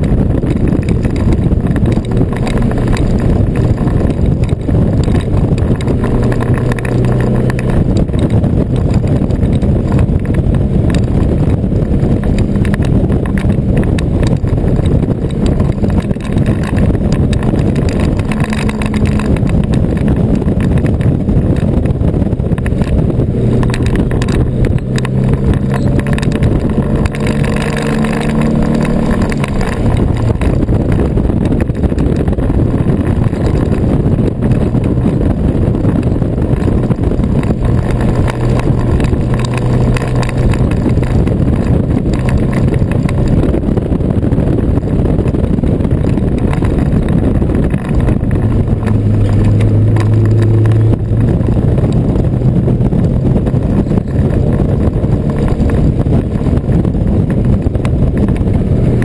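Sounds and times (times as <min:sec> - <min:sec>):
car engine pulling hard: 0:00.0 - 0:59.0
road noise: 0:00.0 - 0:59.0
wind noise: 0:00.0 - 0:59.0.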